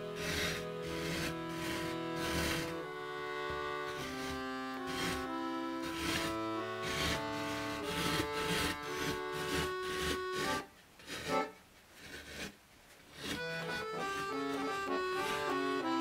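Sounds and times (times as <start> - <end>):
accordion notes: 0.0 - 11.6, 13.2 - 16.0.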